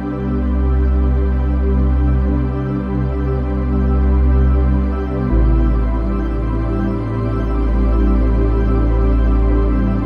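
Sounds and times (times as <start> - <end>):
ambient new-age music: 0.0 - 10.0
deep sustained bass: 0.0 - 10.0.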